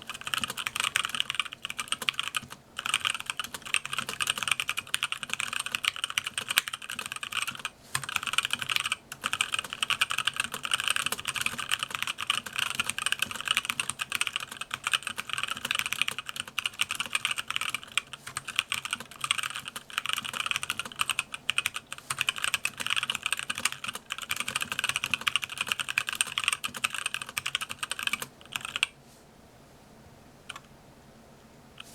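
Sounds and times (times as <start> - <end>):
typing on a mechanical keyboard: 0.0 - 28.9.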